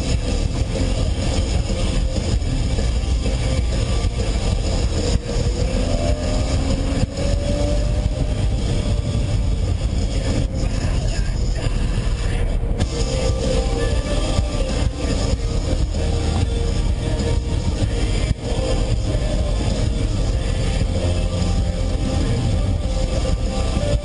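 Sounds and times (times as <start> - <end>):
car engine droning: 0.0 - 24.0
tyre and road noise: 0.0 - 24.0.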